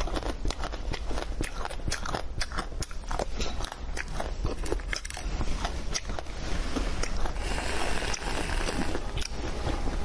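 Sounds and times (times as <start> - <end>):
crunchy candy chewing: 0.0 - 9.8.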